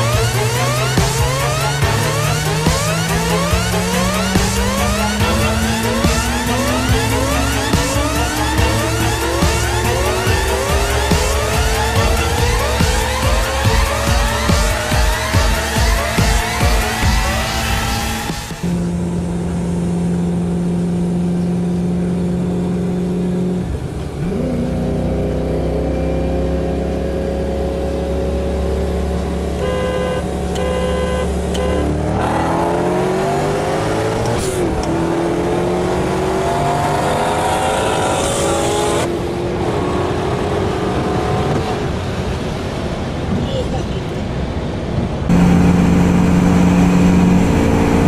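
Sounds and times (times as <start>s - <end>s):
sports car engine revving: 0.0s - 42.1s, 45.3s - 48.0s.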